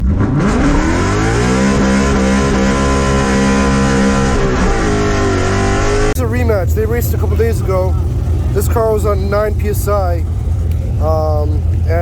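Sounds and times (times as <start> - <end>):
car engine under hard load: 0.0 - 12.0.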